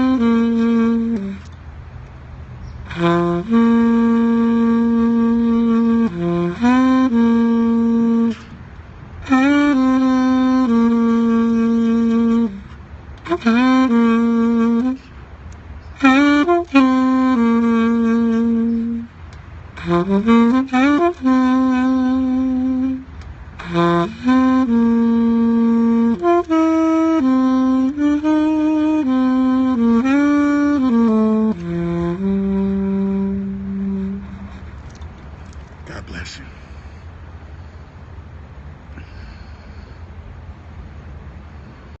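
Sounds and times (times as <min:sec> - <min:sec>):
saxophone slow melody: 0:00.0 - 0:35.8.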